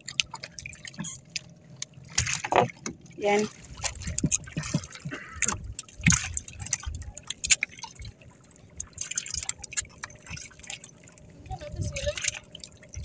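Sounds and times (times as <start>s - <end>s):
water drips: 0.0s - 13.0s
water lapping against boat hull: 0.0s - 13.0s.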